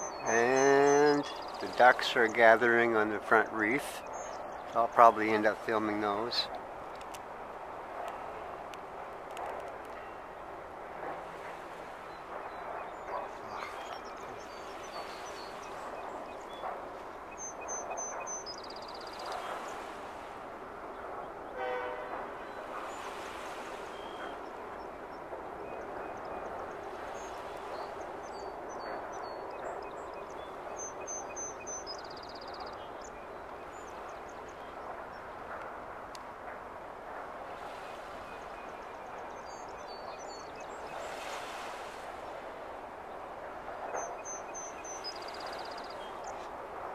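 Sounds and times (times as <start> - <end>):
songbird singing: 0.0 - 7.2, 11.4 - 36.4, 37.6 - 46.9.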